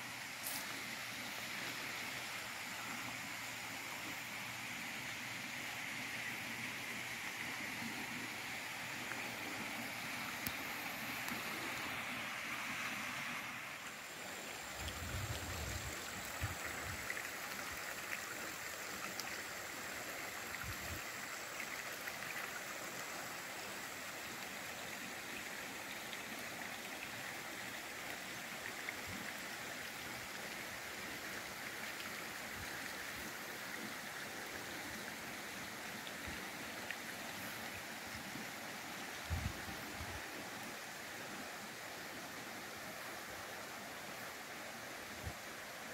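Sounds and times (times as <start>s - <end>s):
stream water rushing: 0.0s - 45.9s.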